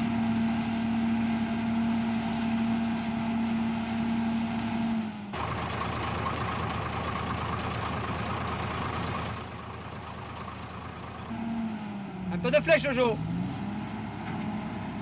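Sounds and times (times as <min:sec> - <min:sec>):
pipelayer engine running: 0:00.0 - 0:13.2.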